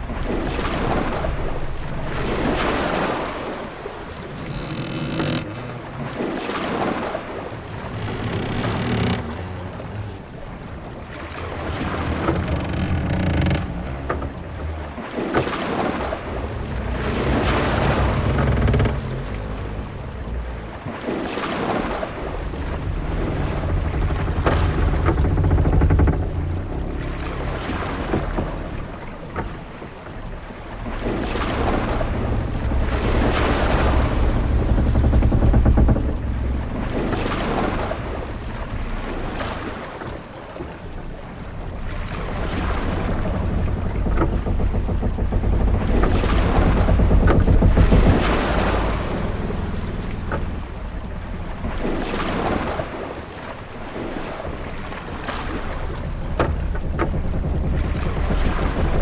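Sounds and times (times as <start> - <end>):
deep rumble of sea: 0.0 - 59.0
waves washing against hull: 0.0 - 59.0
wind: 0.0 - 59.0.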